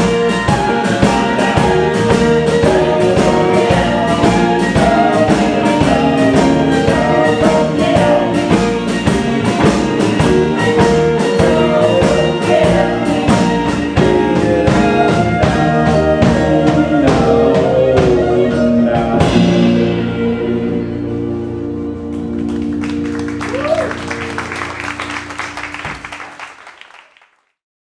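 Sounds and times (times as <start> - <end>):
live band playing: 0.0 - 27.1.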